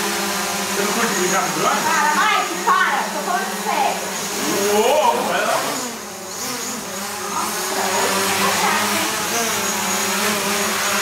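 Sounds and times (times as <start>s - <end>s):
drone propellers buzzing: 0.0s - 11.0s.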